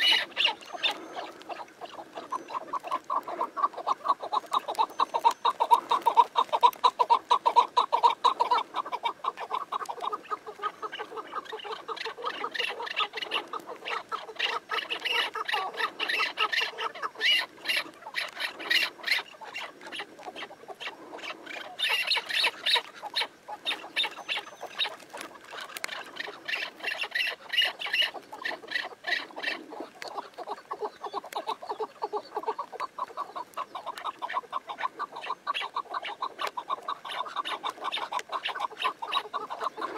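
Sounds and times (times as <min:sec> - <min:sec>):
partridges clucking calls: 0:00.0 - 0:39.9.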